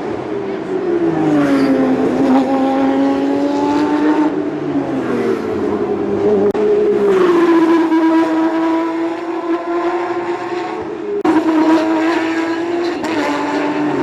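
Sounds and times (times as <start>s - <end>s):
race car engines at high revs: 0.0s - 14.0s.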